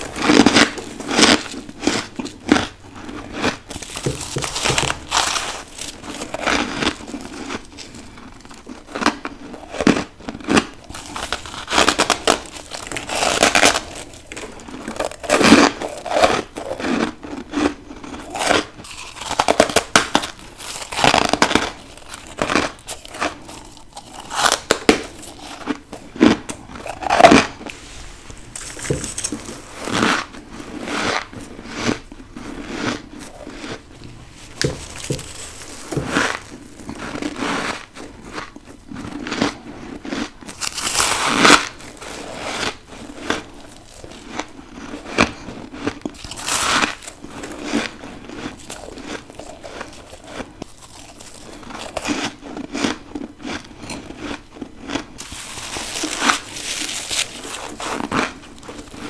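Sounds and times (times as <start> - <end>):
person crunching frost: 0.0 - 59.0.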